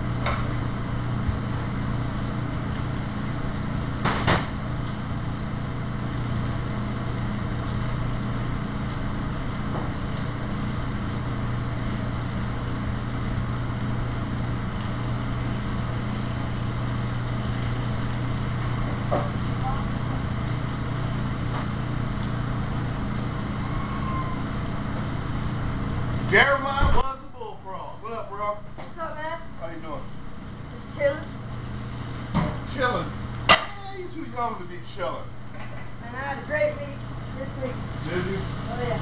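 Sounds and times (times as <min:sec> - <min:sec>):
kitchen exhaust fan humming: 0:00.0 - 0:39.0.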